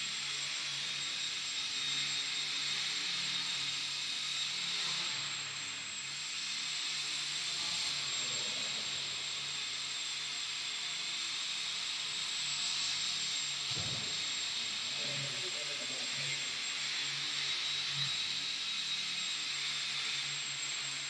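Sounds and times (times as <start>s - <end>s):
model plane electric motor whine: 0.0s - 21.0s.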